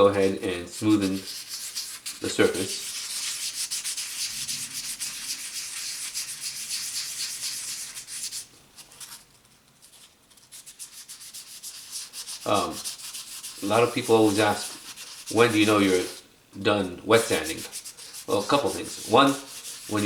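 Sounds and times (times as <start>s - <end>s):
sandpaper rasping on metal: 0.7s - 9.2s, 10.3s - 16.2s, 17.2s - 20.0s.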